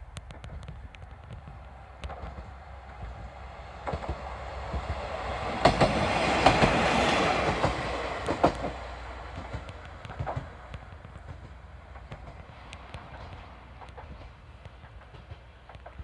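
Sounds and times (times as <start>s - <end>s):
diesel railcar passing: 0.0s - 16.0s
wheels clacking over rail joints: 0.1s - 16.0s.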